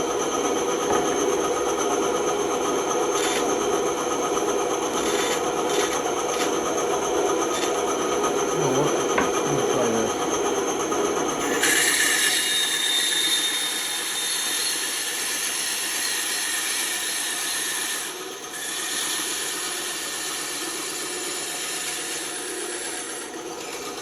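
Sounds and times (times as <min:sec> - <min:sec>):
band saw cutting wood: 0:00.0 - 0:24.0.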